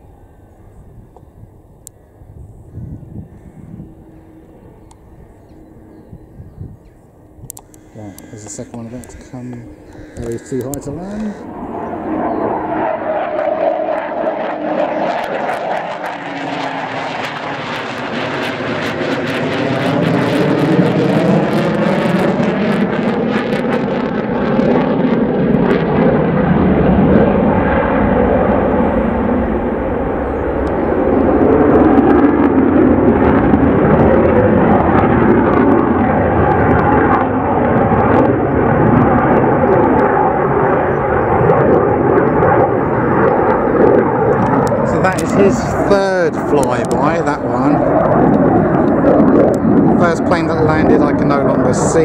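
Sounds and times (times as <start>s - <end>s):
fighter jet flyby: 0.0s - 52.0s.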